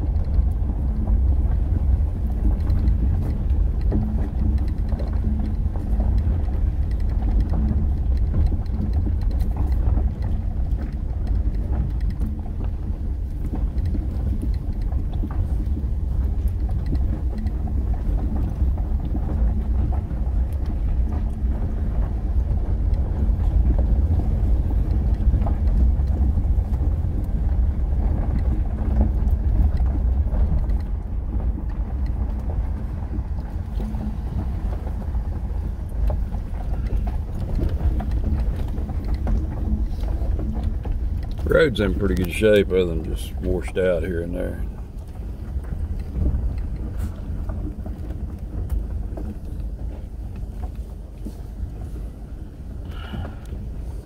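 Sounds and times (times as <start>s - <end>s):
engine and tyres rumbling: 0.0s - 54.0s
gravel ticking under tyres: 0.0s - 54.0s.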